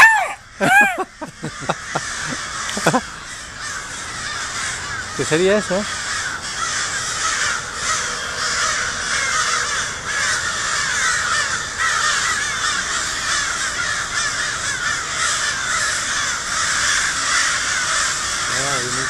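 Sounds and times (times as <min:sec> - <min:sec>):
flock of crows cawing: 0:00.0 - 0:19.0.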